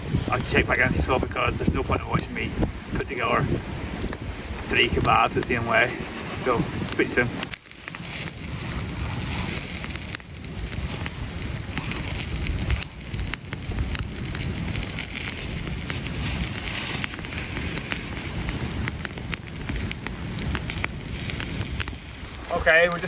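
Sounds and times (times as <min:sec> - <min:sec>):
campfire crackling and popping: 0:00.0 - 0:23.0
wind rumbling on microphone: 0:00.0 - 0:23.0.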